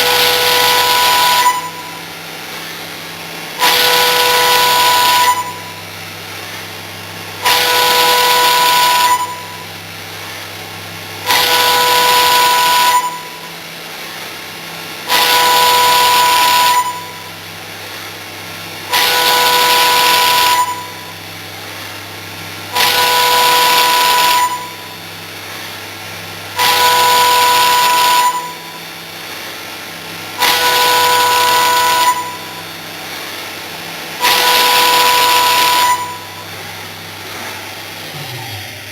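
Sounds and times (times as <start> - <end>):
machine humming: 0.0 - 38.9
milling machine cutting metal: 0.0 - 38.9.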